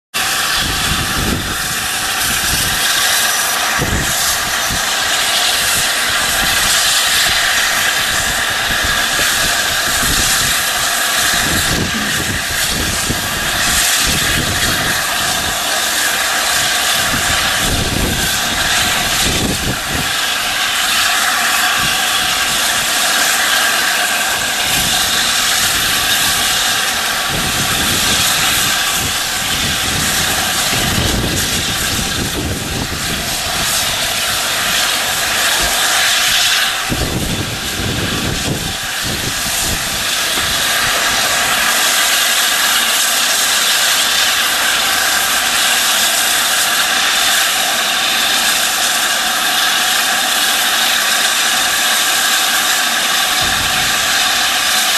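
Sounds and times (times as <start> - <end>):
steam hissing: 0.1 - 54.9.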